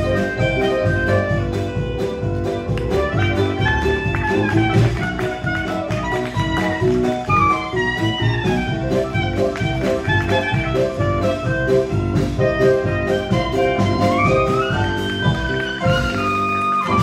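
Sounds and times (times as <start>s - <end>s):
drum kit beat: 0.0s - 17.0s
horn playing melody: 0.0s - 17.0s
piano: 0.0s - 17.0s.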